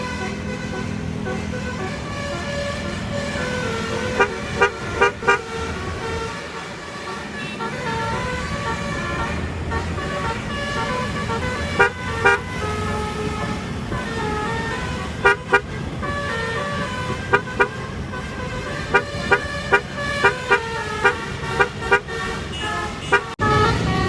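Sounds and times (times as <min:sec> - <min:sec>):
multi-tone bus horn playing a tune: 0:00.0 - 0:24.0.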